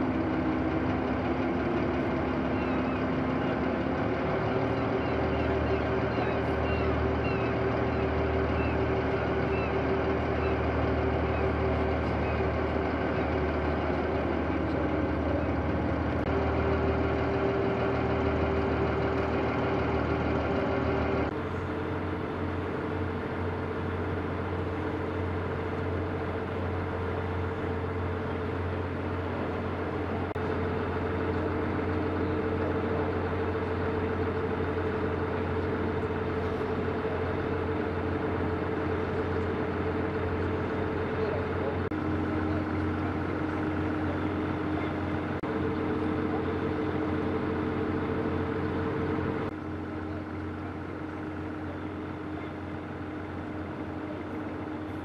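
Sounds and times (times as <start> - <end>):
constant hum: 0.0 - 55.0
low engine drone: 0.0 - 55.0.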